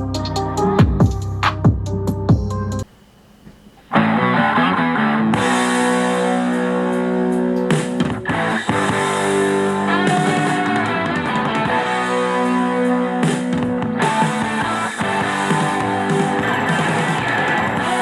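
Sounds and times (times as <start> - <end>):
rock music through a speaker: 0.0 - 2.9, 3.9 - 18.0.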